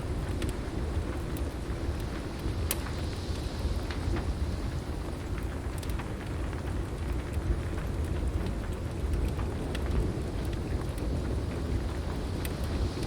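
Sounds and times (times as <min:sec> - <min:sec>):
continuous low rumble: 0:00.0 - 0:13.0
heavy rain falling: 0:00.0 - 0:13.0
wood fire crackling: 0:00.0 - 0:13.0.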